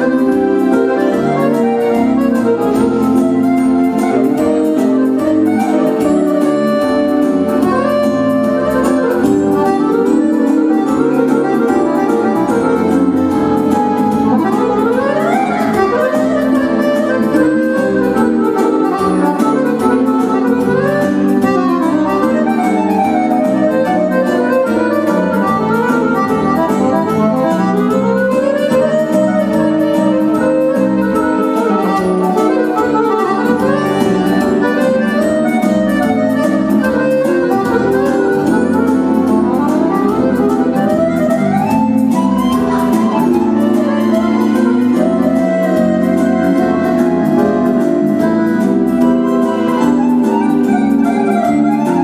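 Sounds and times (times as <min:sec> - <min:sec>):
accordion playing quick runs: 0:00.0 - 0:52.0.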